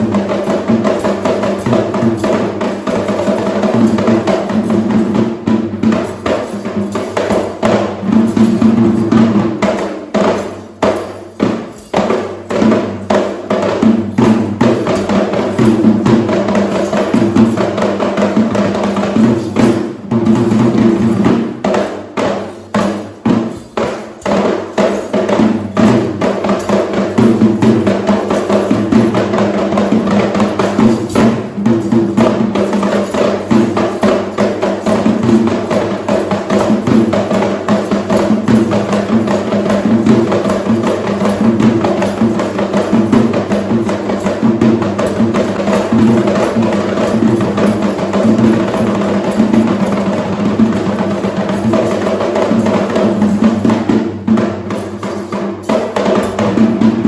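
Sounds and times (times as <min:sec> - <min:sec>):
traditional drums playing: 0:00.0 - 0:57.0.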